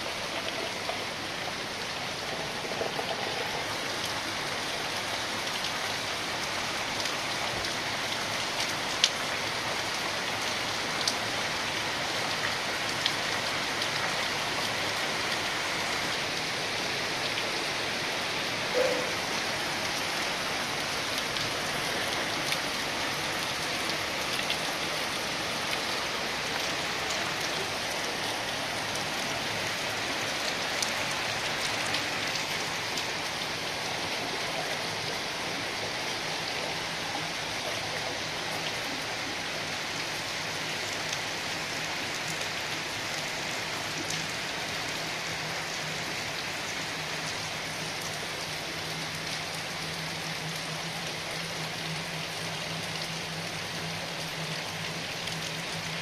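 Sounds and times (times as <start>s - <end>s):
rain falling on wet ground: 0.0s - 56.0s.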